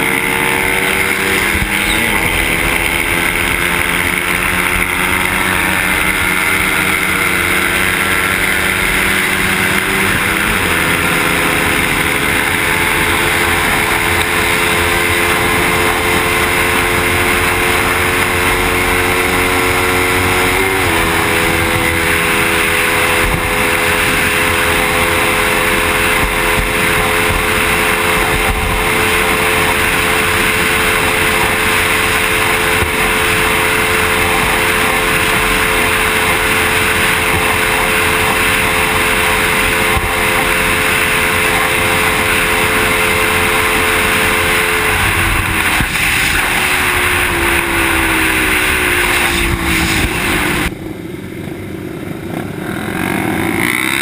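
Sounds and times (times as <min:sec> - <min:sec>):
motorcycle engine cruising: 0:00.0 - 0:54.0
wind and road rush: 0:00.0 - 0:54.0.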